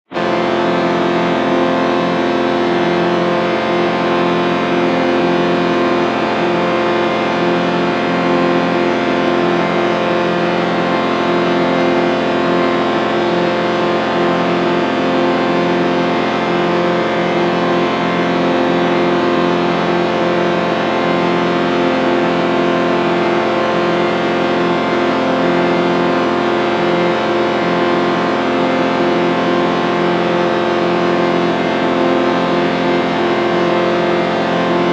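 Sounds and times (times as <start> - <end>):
sustained shimmering chord drone: 0.2 - 34.9.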